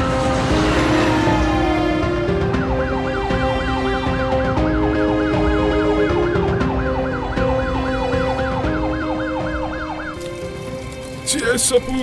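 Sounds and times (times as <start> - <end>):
police siren wailing: 0.0 - 10.8
background music with held notes: 0.0 - 12.0.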